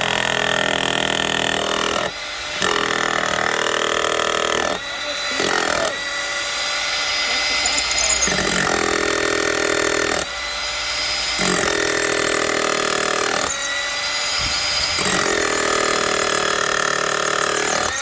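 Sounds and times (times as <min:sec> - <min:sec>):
hammer drill drilling into concrete: 0:00.0 - 0:18.0.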